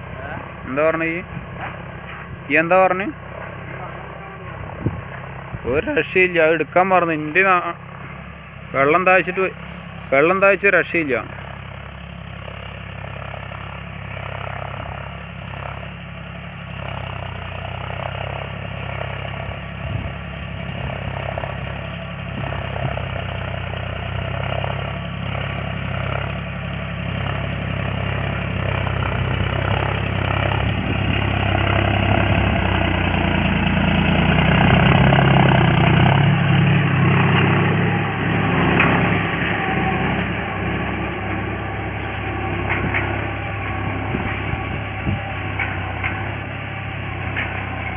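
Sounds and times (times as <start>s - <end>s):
tractor diesel engine under load: 0.0s - 47.9s.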